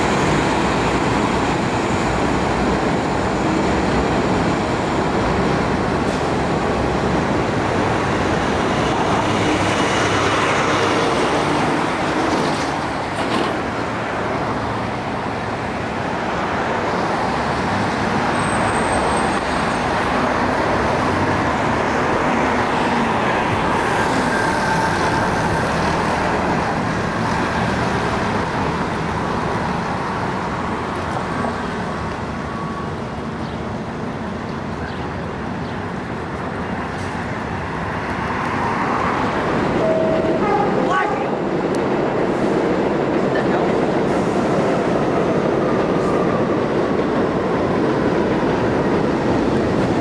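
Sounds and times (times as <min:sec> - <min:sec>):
city street traffic: 0:00.0 - 0:50.0
heavy vehicles passing: 0:00.0 - 0:50.0.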